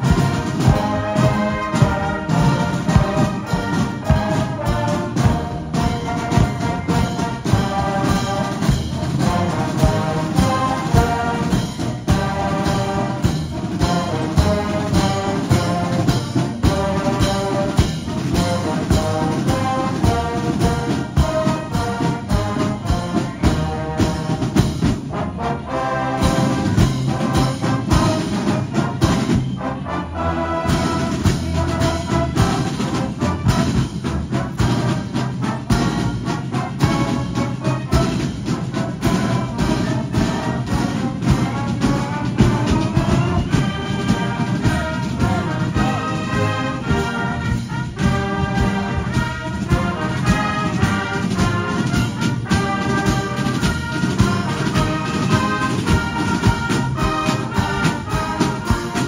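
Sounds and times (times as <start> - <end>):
marching band playing: 0.0 - 59.0
steady drum beat: 0.0 - 59.0.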